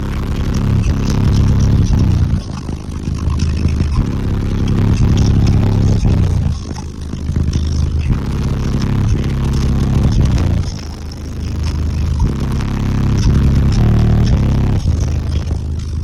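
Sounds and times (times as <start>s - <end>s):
bass-heavy music through subwoofers: 0.0s - 16.0s.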